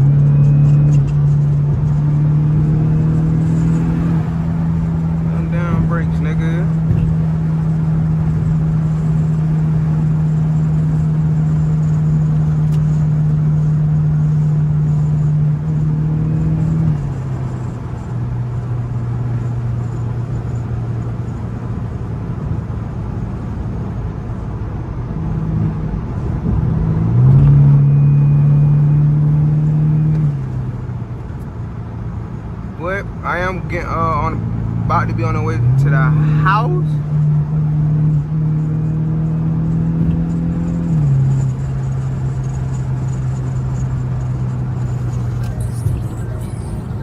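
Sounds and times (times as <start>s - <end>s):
car engine while driving: 0.0s - 47.0s.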